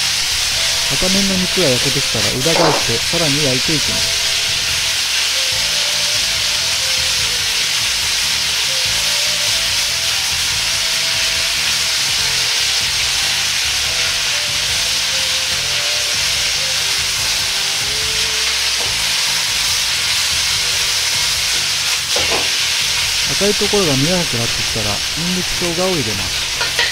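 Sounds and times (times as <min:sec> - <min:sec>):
beef sizzling in oil: 0:00.0 - 0:26.9.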